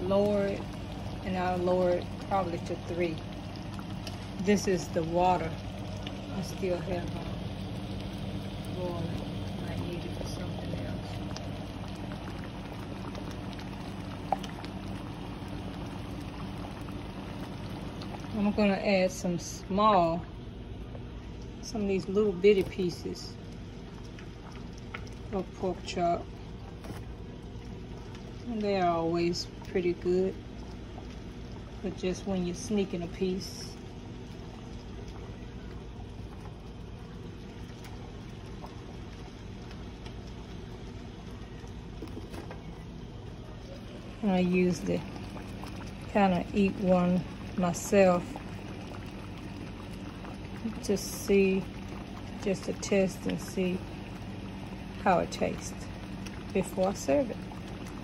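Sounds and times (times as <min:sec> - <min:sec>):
gravy bubbling in a skillet: 0:00.0 - 0:58.0
low hum: 0:00.0 - 0:58.0.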